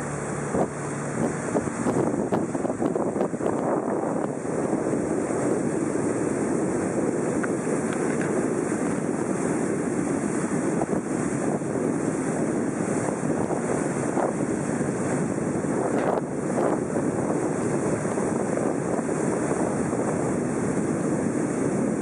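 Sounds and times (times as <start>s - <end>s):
boat engine running: 0.0s - 22.0s
water rushing past boat: 0.0s - 22.0s
wind on microphone: 0.0s - 22.0s.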